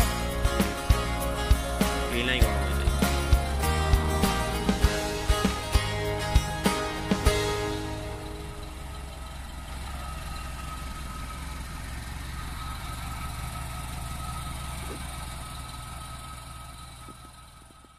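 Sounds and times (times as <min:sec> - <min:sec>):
vehicle engines idling: 0:00.0 - 0:17.9.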